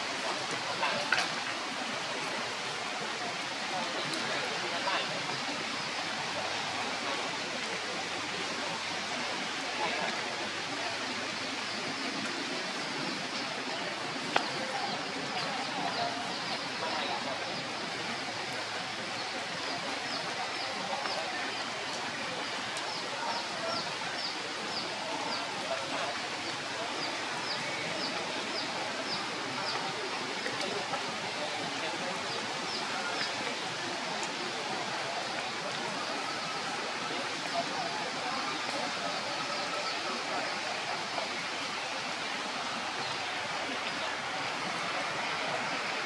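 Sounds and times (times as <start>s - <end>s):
rain hissing on leaves: 0.0s - 46.0s.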